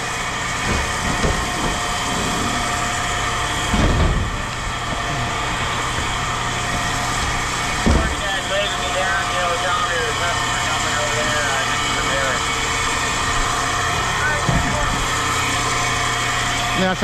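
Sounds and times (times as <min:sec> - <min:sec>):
low engine rumble: 0:00.0 - 0:17.0
vehicle engine idling: 0:00.0 - 0:17.0.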